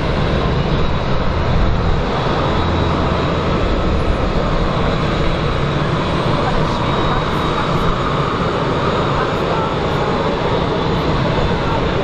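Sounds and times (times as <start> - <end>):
jet airliner engine noise: 0.0 - 12.0.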